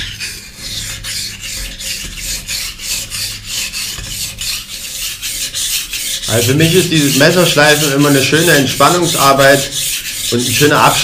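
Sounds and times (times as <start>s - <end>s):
knife scraping on wet whetstone: 0.0s - 11.0s.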